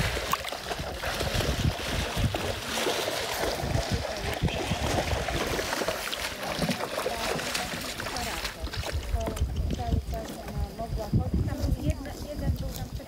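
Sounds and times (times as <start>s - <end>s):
water lapping around a kayak: 0.0s - 13.0s
wind rumbling on microphone: 0.0s - 13.0s.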